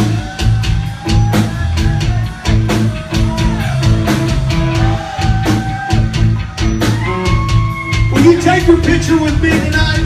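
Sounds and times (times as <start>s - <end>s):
drum kit beat: 0.0s - 10.0s.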